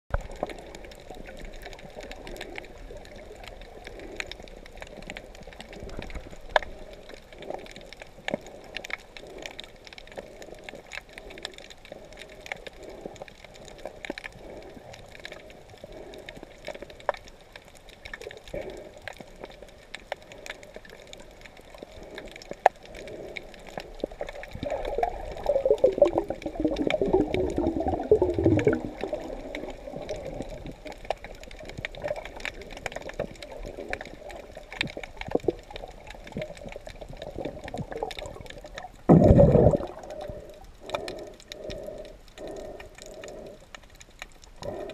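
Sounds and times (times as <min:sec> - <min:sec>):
bubbling and gurgling: 0:00.1 - 0:43.6
muffled underwater noise: 0:00.1 - 0:44.9.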